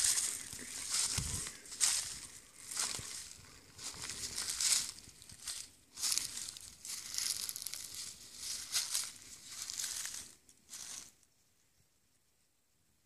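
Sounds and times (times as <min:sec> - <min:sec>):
footsteps on dry leaves: 0:00.0 - 0:11.2.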